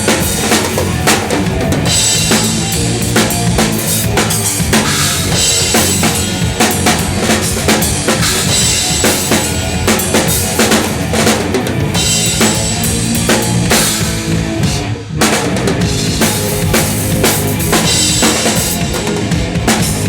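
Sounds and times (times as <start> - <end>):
distorted guitars and bass: 0.0 - 20.0.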